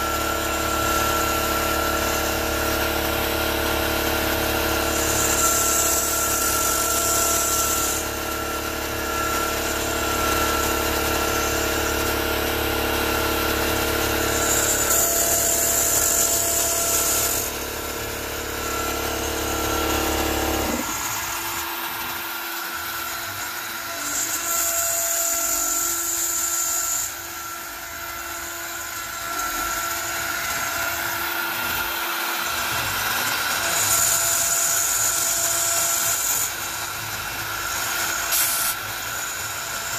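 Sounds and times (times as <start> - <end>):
router spindle whine: 0.0 - 39.9
bit cutting acrylic: 4.0 - 12.2, 13.4 - 39.9.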